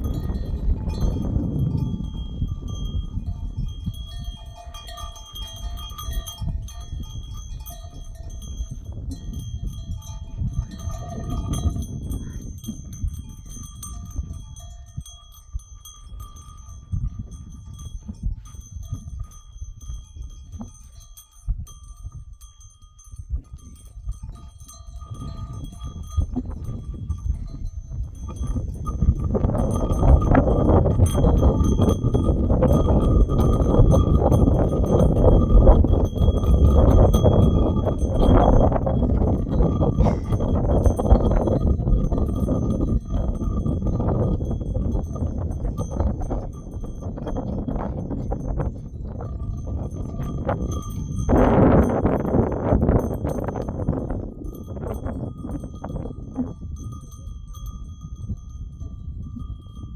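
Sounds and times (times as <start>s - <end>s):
sheep bells clinking: 0.0s - 59.9s.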